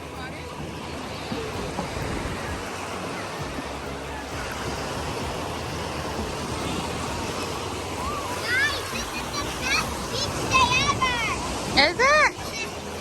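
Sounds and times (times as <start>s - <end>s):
ocean surf on shore: 0.0s - 13.0s.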